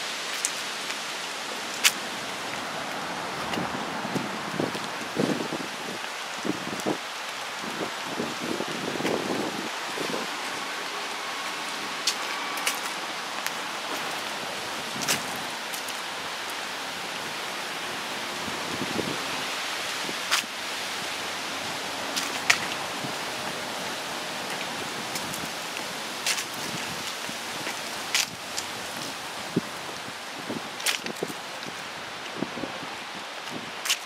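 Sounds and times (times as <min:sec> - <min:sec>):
light rain hiss: 0:00.0 - 0:34.0.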